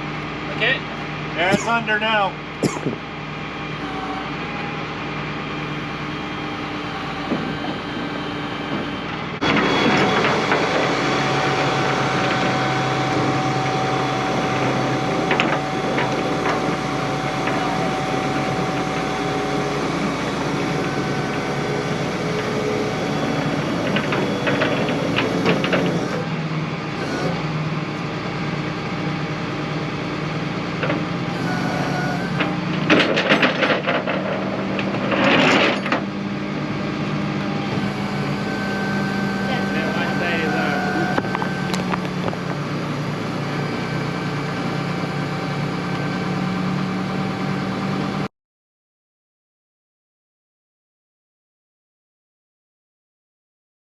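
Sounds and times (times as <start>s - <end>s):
vehicle engine running: 0.0s - 48.3s.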